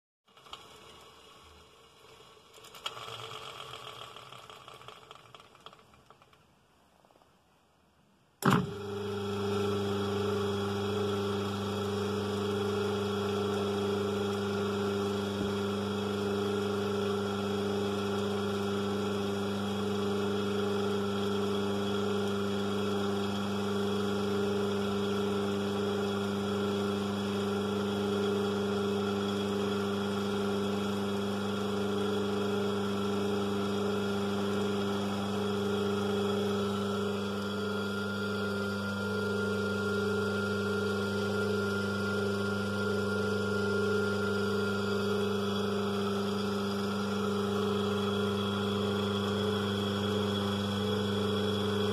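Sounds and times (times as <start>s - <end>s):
electric motor hum: 0.4s - 5.9s, 8.4s - 51.9s.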